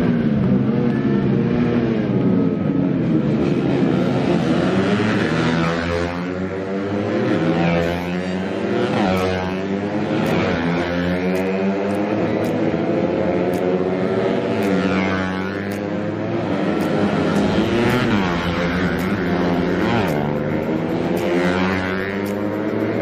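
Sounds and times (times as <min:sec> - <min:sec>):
racing motorcycles passing: 0:00.0 - 0:23.0.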